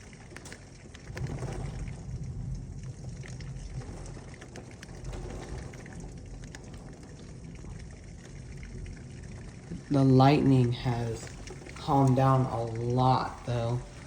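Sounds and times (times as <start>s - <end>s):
close raindrops ticking: 0.0s - 14.0s
heavy rain falling: 0.0s - 14.0s
low rumble: 0.8s - 14.0s.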